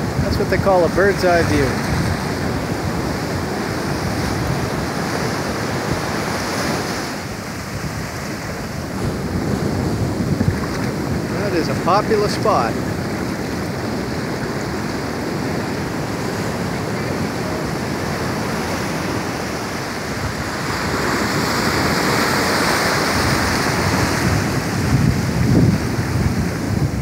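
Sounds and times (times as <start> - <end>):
ocean surf washing onto beach: 0.0 - 27.0.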